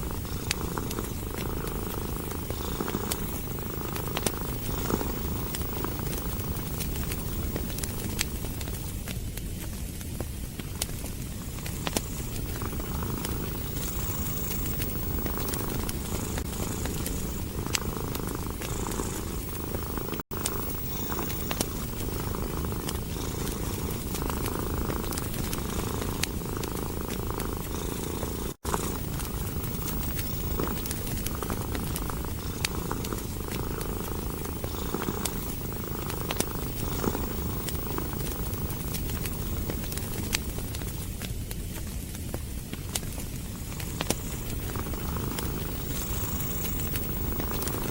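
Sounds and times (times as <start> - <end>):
cat purring: 0.0 - 47.9
wood fire crackling: 0.0 - 47.9.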